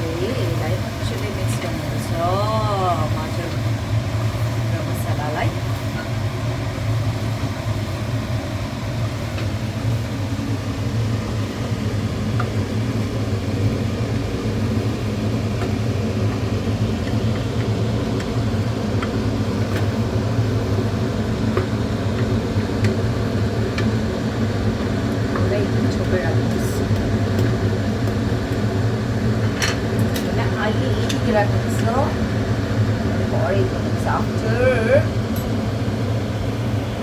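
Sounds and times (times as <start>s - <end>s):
kitchen appliances humming: 0.0s - 37.0s.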